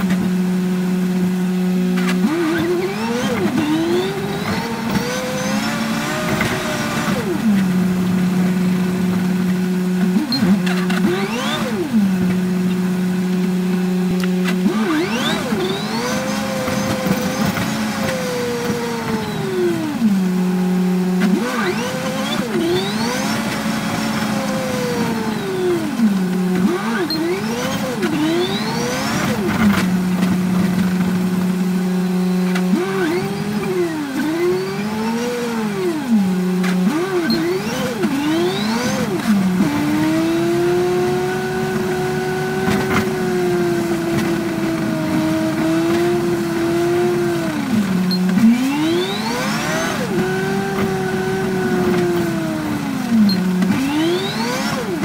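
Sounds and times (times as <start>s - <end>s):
bus engine whine: 0.0s - 55.0s
road noise: 0.0s - 55.0s.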